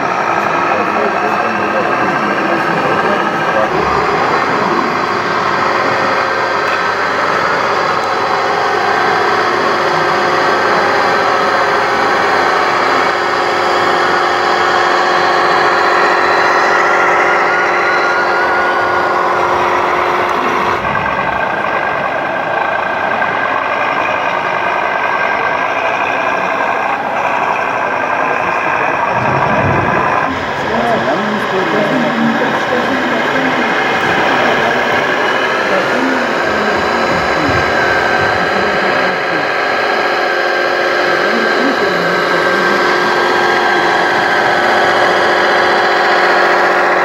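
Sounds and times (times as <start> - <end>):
model vehicle motor whine: 0.0 - 47.0.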